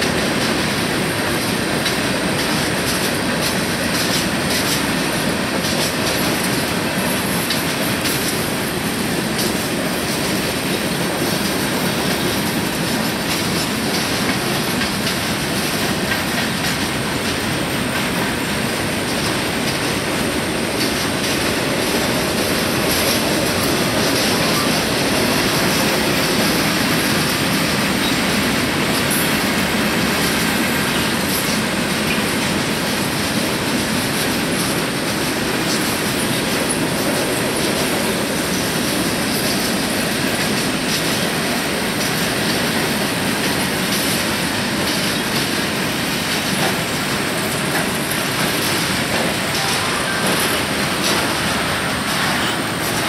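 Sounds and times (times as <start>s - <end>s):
freight train cars rolling past: 0.0s - 53.0s.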